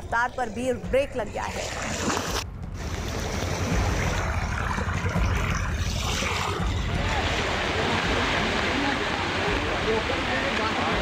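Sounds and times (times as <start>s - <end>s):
floodwater rushing: 1.6s - 11.0s.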